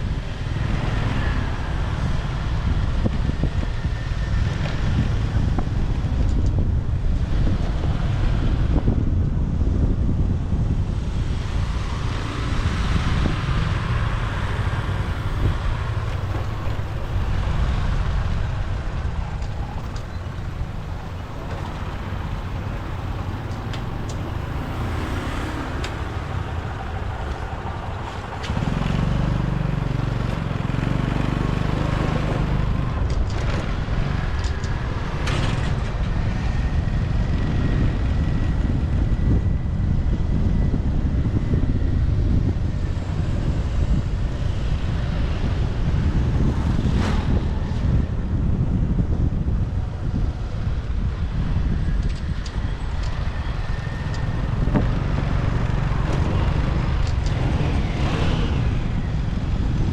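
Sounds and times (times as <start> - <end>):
motorbike engine and road rumble: 0.0 - 59.9
passing vehicles: 0.0 - 59.9
wind noise: 0.0 - 59.9.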